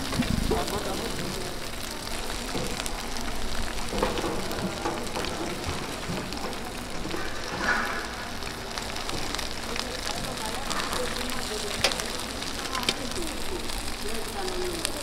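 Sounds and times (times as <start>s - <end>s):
food sizzling in oil: 0.0s - 15.0s
spattering oil crackle: 0.0s - 15.0s.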